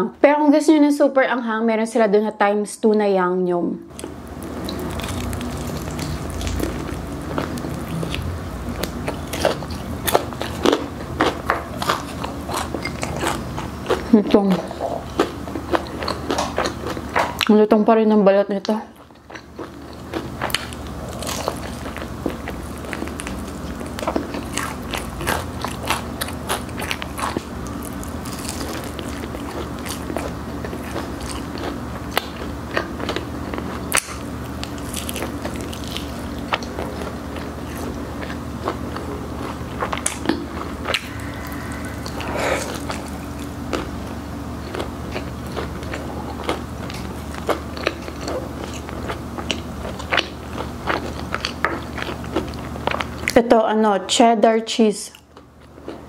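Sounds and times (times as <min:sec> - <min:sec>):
faint low hum: 0:00.0 - 0:56.0
crunchy chewing of fried chicken: 0:03.9 - 0:17.6, 0:18.9 - 0:53.4, 0:55.1 - 0:56.0.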